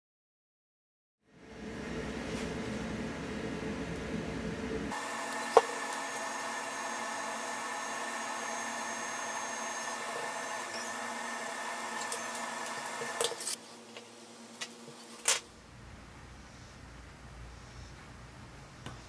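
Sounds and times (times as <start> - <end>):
steady background hum: 1.3 - 19.0.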